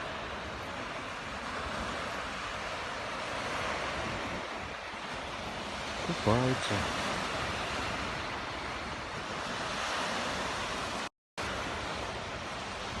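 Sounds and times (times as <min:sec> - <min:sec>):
waves washing on beach: 0:00.0 - 0:13.0.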